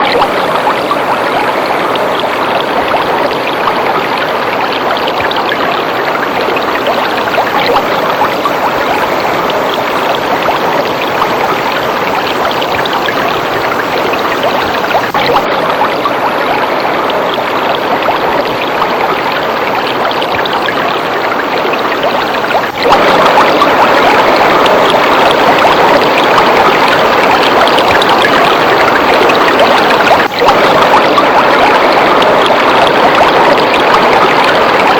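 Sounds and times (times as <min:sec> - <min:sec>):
waterfall rushing and splashing: 0:00.0 - 0:34.9.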